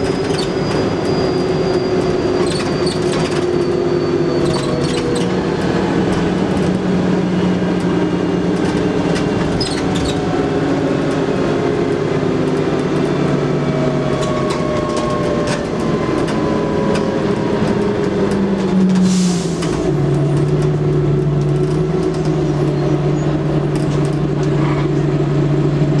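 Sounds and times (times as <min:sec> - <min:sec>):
diesel bus engine: 0:00.0 - 0:26.0.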